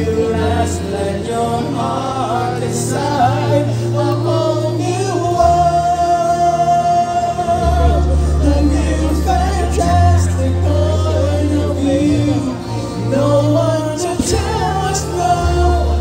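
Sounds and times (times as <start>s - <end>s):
person singing: 0.0s - 16.0s
sustained bass notes: 0.0s - 16.0s.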